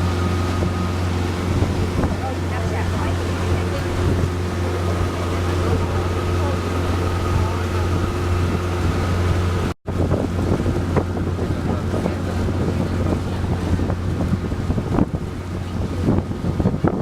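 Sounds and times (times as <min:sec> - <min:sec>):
boat engine humming: 0:00.0 - 0:17.0
water noise: 0:00.0 - 0:17.0
wind buffeting microphone: 0:00.0 - 0:17.0.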